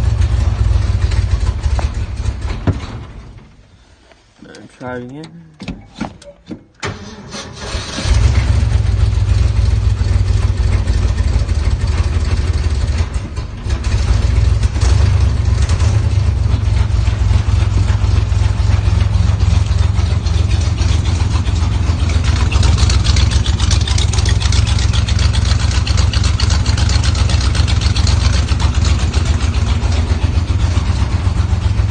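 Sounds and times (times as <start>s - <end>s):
car engine running: 0.0s - 3.9s, 7.9s - 31.9s
engine cranking: 4.6s - 31.9s.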